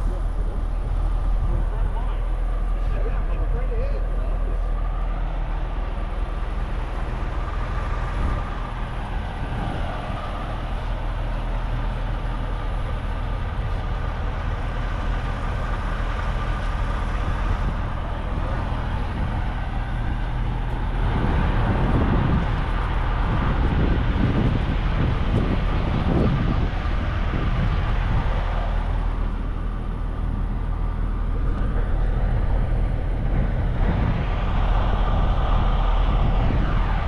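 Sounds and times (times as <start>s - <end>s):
engine and traffic rumble: 0.0s - 37.0s.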